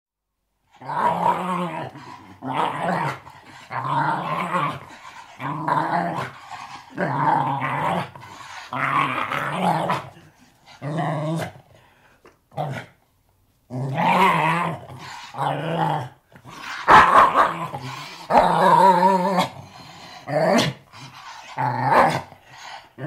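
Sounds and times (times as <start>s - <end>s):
dog snarling and growling: 0.7s - 11.7s, 13.7s - 23.0s.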